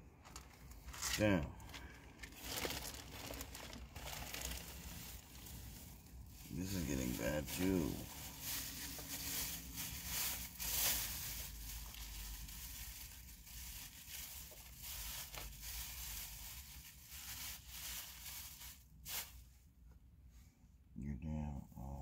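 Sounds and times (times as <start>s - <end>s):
plastic bag crinkling: 0.2s - 19.5s.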